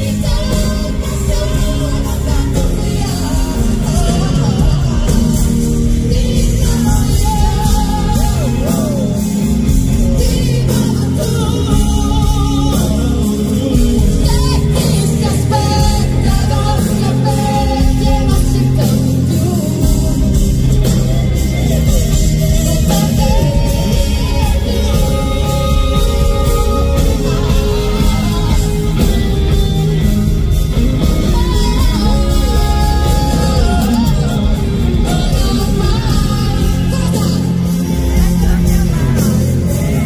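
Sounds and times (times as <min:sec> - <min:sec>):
man singing lead: 0:00.0 - 0:40.0
pop-rock band playing live: 0:00.0 - 0:40.0.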